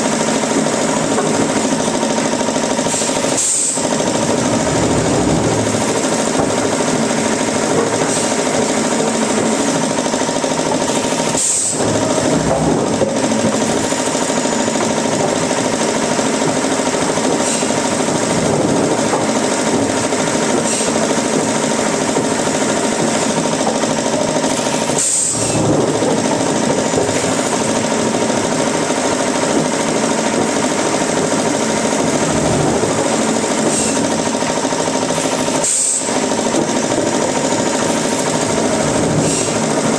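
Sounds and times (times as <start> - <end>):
machine whine: 0.0 - 39.9
woodworking machine grinding: 0.0 - 39.9.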